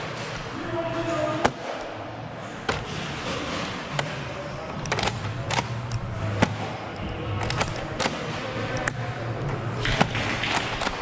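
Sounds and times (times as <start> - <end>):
balls striking barriers: 0.0 - 11.0.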